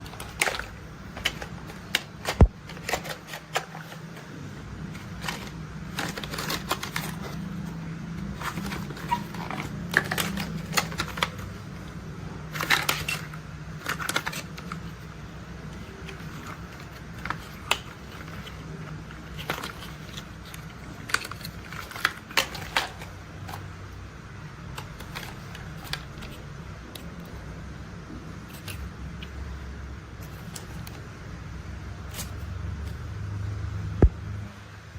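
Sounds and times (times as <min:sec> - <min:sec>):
plastic toys clicking and clattering: 0:00.0 - 0:23.8, 0:24.7 - 0:27.4, 0:28.4 - 0:29.4, 0:30.2 - 0:31.1
low steady hum: 0:00.0 - 0:34.9.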